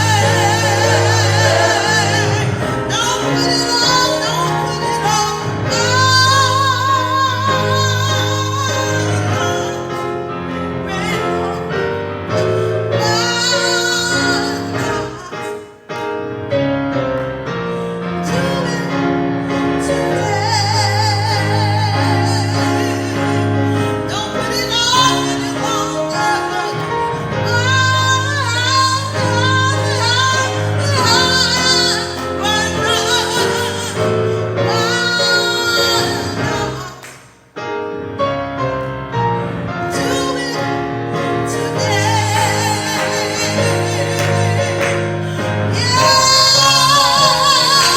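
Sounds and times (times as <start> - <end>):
woman singing with vibrato: 0.0 - 10.2, 10.8 - 15.8, 18.2 - 19.2, 19.8 - 37.1, 39.8 - 47.9
instrumental accompaniment: 0.0 - 47.9.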